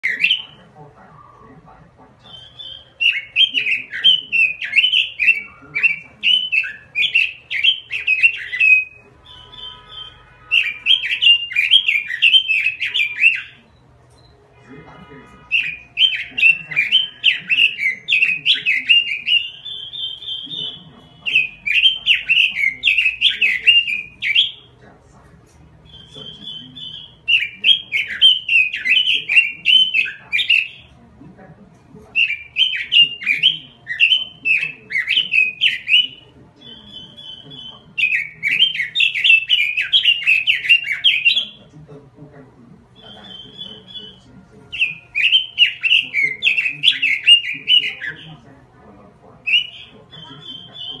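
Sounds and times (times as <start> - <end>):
bird singing warbling phrases: 0.0 - 51.0.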